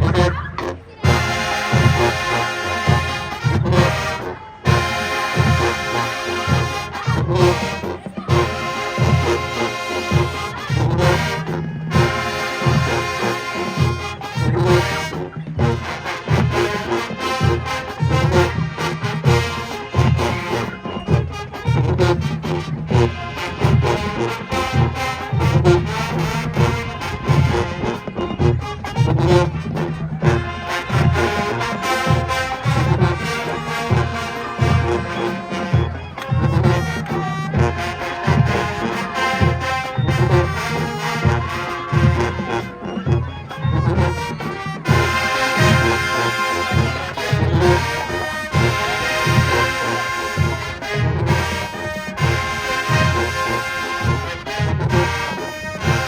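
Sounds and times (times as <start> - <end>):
brass instruments: 0.0 - 56.0
drumline playing: 0.0 - 56.0.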